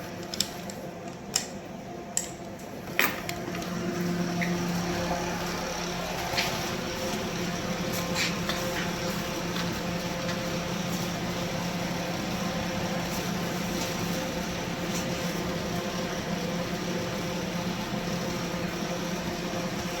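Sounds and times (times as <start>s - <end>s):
mechanical drone with low hum: 0.0s - 20.0s.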